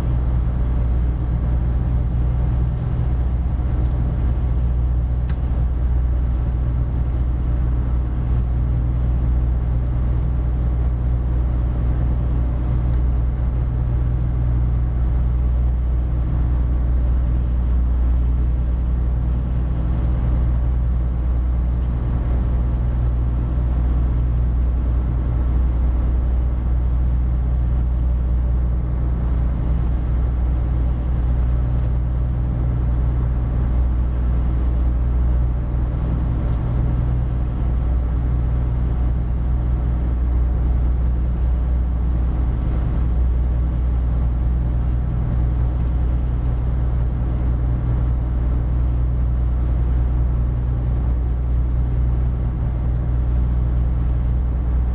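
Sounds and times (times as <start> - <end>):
boat diesel engine drone: 0.0 - 54.9.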